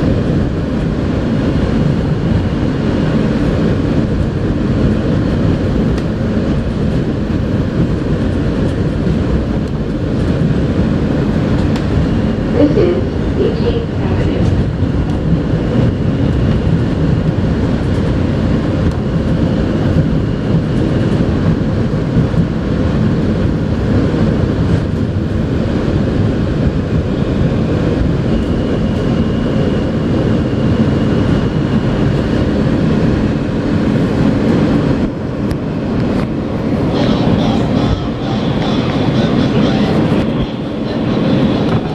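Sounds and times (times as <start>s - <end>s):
subway train rumbling on rails: 0.0s - 41.9s.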